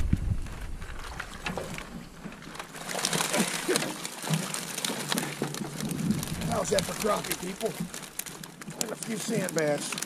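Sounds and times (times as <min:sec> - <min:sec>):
fish slapping: 0:00.8 - 0:10.0
water splashing and streaming: 0:00.8 - 0:10.0.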